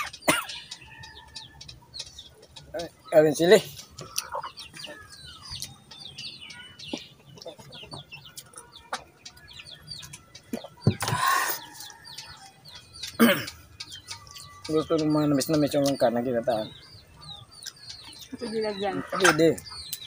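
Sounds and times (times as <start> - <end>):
chickens clucking: 0.0 - 20.0
small birds chirping: 0.0 - 20.0.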